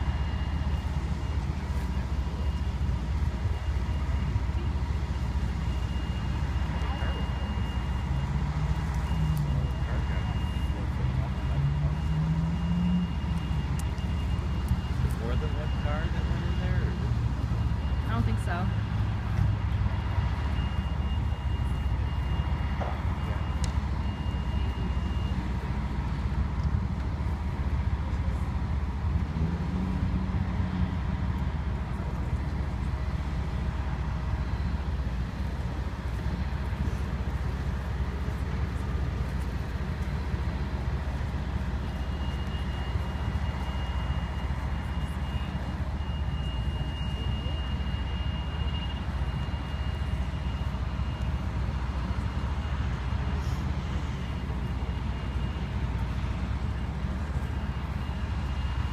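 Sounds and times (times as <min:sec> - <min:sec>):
fire engines idling: 0:00.0 - 0:58.9
road traffic rumble: 0:00.0 - 0:58.9.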